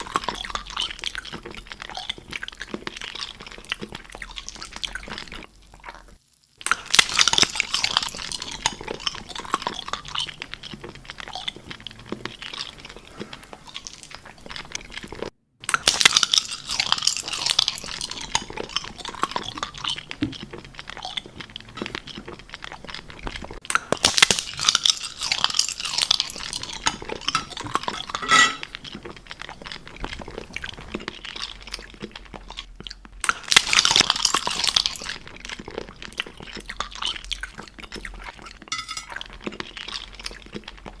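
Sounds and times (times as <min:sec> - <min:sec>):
crunching and clinking eating: 0:00.0 - 0:41.0.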